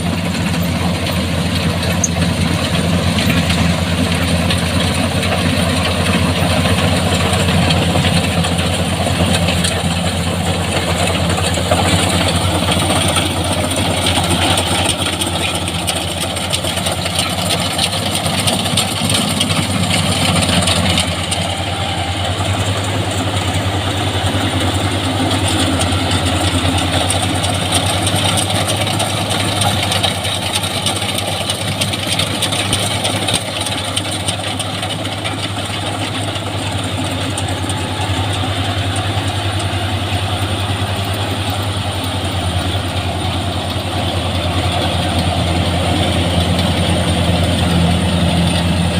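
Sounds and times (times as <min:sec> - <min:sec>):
combine harvester engine droning: 0:00.0 - 0:48.9.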